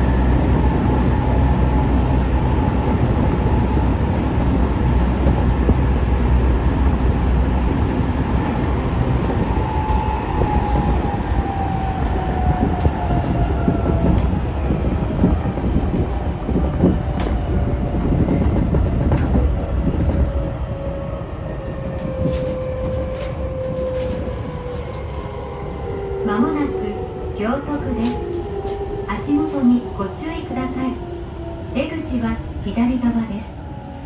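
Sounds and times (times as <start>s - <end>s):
train inverter whine: 0.0s - 34.0s
train rumbling running noise: 0.0s - 34.0s.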